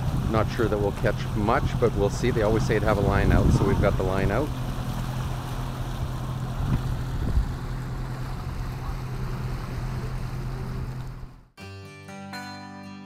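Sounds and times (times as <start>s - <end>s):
water rushing along hulls: 0.0s - 11.5s
boat engine running: 0.0s - 11.6s.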